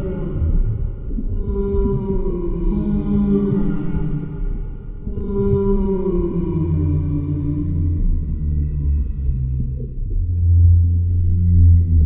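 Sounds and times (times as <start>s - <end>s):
underwater low rumble: 0.0s - 12.0s.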